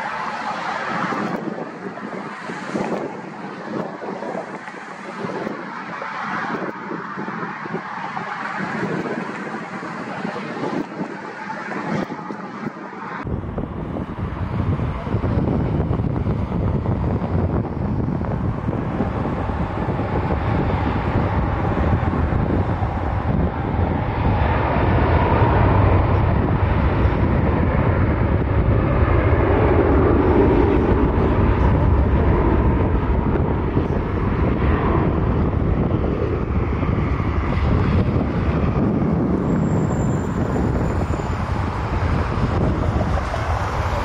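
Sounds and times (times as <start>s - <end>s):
jet engines rumbling: 0.0s - 44.0s
wind buffeting microphone: 0.0s - 44.0s.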